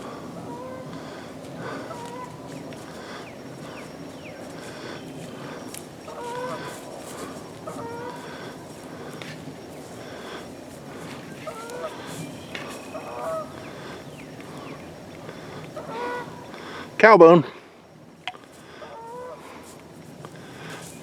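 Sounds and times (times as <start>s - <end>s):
large birds calling: 0.0s - 17.0s, 17.6s - 21.0s
outdoor background noise: 0.0s - 21.0s.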